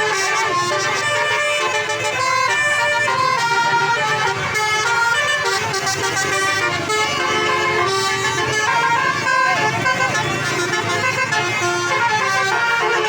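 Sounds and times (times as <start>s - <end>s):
bus musical horn tune: 0.0s - 13.0s.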